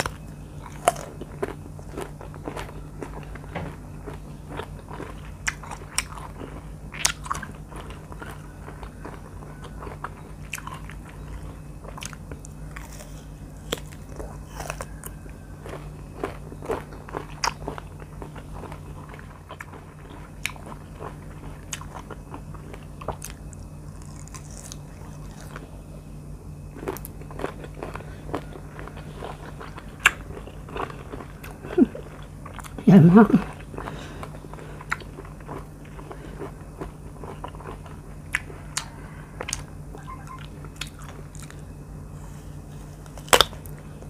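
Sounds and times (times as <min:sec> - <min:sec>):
biting and chewing mango: 0:00.0 - 0:44.0
low steady hum: 0:00.0 - 0:44.0.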